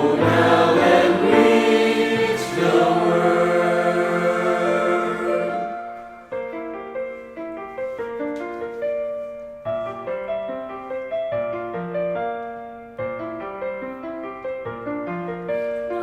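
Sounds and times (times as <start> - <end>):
piano chords and melody: 0.0 - 16.0.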